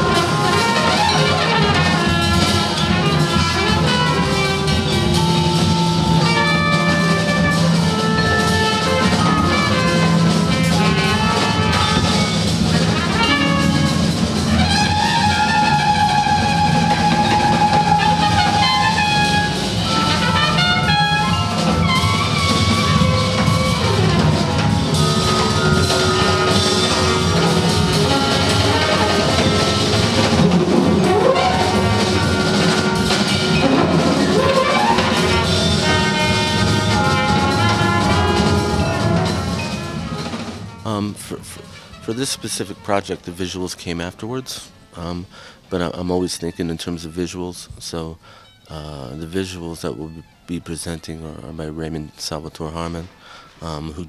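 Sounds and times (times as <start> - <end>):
brass instruments holding long notes: 0.0 - 43.4
drum kit: 0.0 - 43.9.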